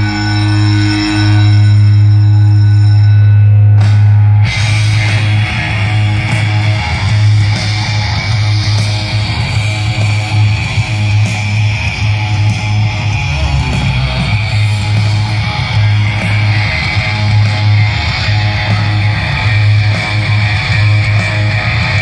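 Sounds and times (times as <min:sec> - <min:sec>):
live hard rock band: 0:00.0 - 0:22.0.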